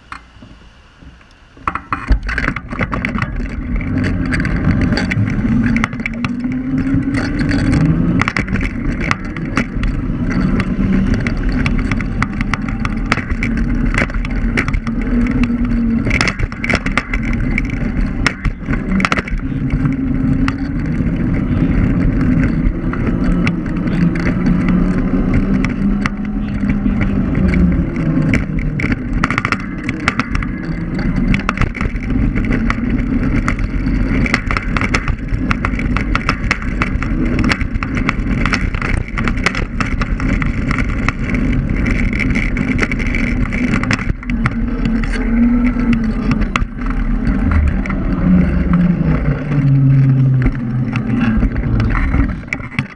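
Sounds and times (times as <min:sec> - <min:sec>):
electric scooter motor hum: 0:00.0 - 0:52.9
low wind rumble: 0:00.0 - 0:52.9
rattles and knocks: 0:00.0 - 0:52.9.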